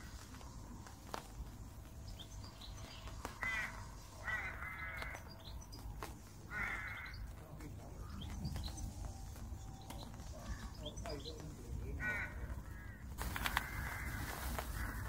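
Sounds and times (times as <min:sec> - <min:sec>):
bird harsh rasping calls: 0:00.0 - 0:15.0.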